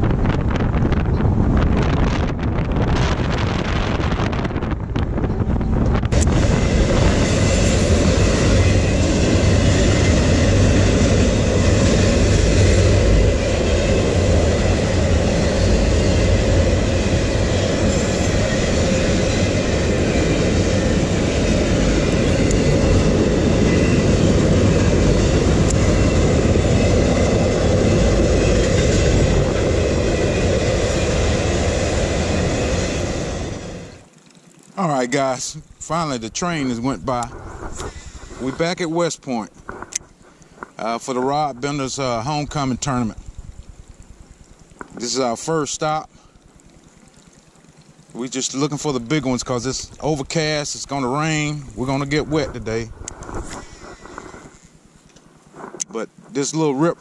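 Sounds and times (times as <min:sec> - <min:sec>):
freight train rumbling over bridge: 0:00.0 - 0:34.1, 0:34.8 - 0:43.2, 0:47.6 - 0:54.9.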